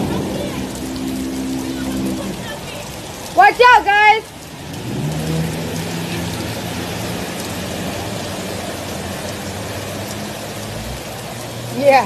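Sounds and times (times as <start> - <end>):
heavy rain: 0.0 - 12.0
water rushing: 0.0 - 12.0.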